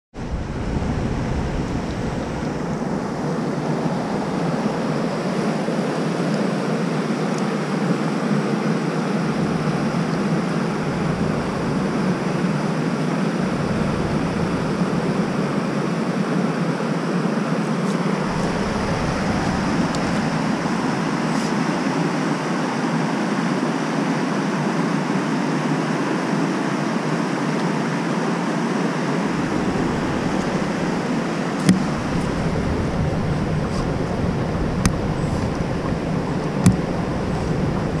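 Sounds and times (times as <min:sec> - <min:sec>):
river rapids rushing: 0:00.2 - 0:23.4, 0:28.4 - 0:38.0
small waterfall: 0:00.2 - 0:38.0.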